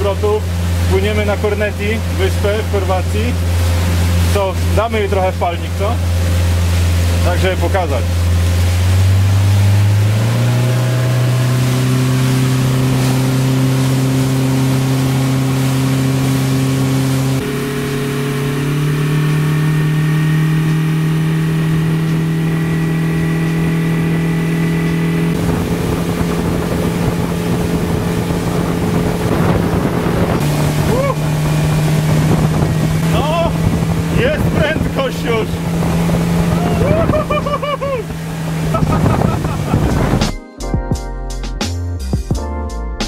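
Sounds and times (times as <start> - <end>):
outboard motor under throttle: 0.0 - 40.4.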